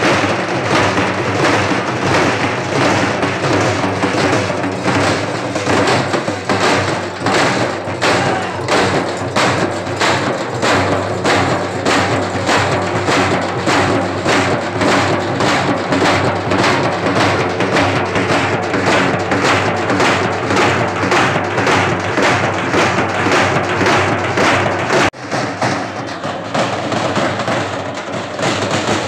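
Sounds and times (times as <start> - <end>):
frame drums beaten with sticks: 0.0 - 29.0.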